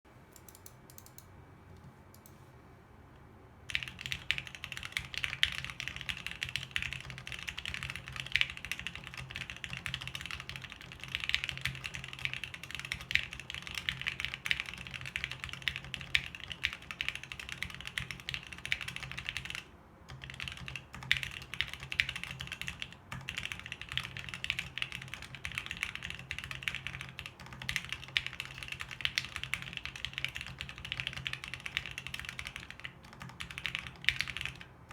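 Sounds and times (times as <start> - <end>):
typing on mechanical keyboard: 3.7 - 34.9.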